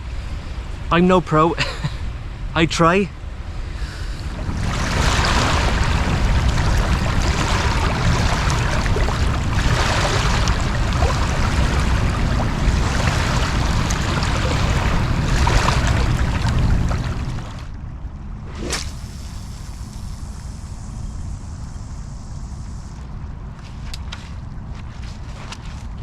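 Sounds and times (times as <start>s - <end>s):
water rushing with low rumble: 0.0s - 23.5s.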